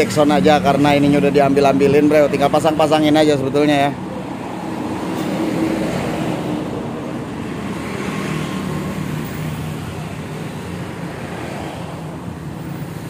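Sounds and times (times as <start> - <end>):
road traffic rumble: 0.0 - 13.0
vehicle engine passing: 0.0 - 13.0.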